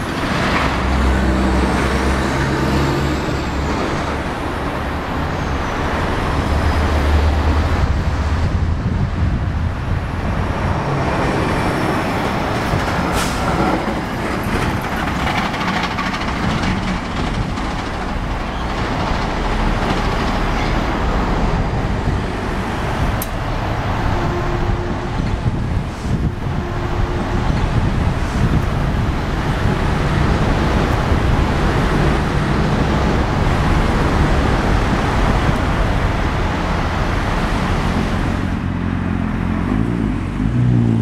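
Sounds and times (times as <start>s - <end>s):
street traffic passing: 0.0s - 41.0s.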